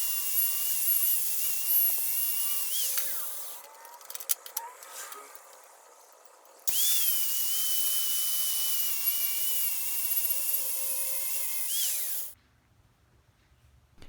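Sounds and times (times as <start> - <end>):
power grinder grinding steel: 0.0 - 12.4.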